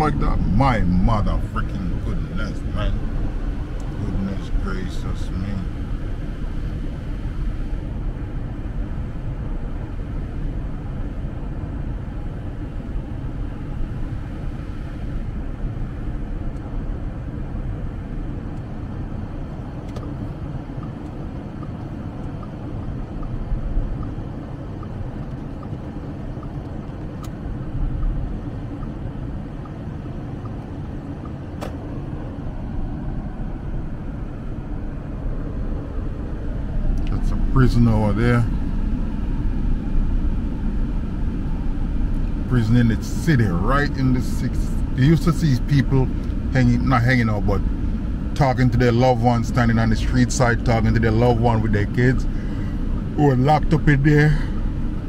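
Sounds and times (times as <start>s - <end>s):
car cabin rumble at highway speed: 0.0s - 55.0s.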